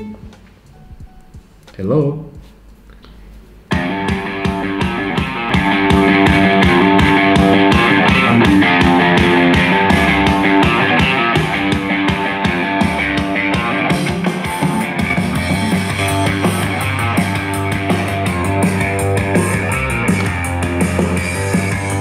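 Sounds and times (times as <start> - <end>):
rock song from a speaker: 3.7 - 22.0.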